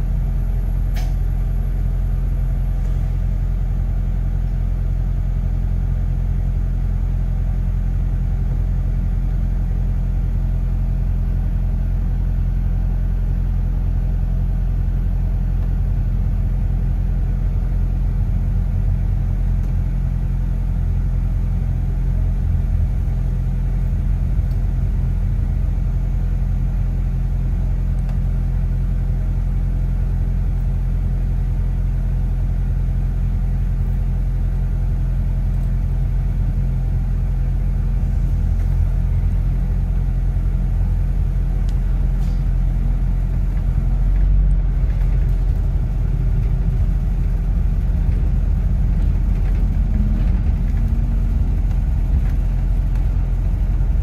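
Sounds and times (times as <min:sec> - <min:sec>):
bus engine hum and rumble: 0:00.0 - 0:54.0.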